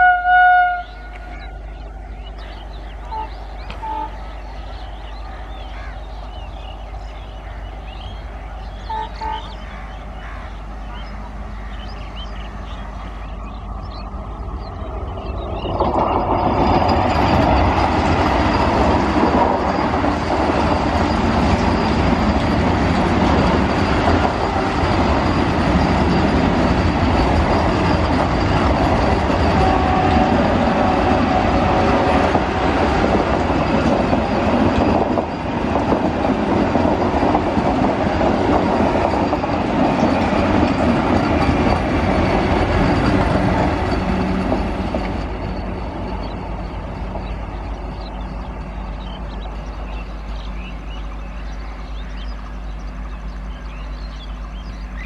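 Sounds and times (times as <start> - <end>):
train wheels rushing on rails: 0.0 - 55.0.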